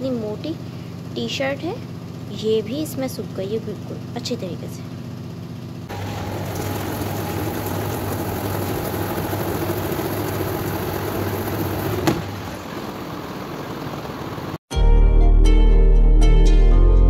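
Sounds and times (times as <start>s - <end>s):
spin dryer motor whirring: 0.0s - 14.6s.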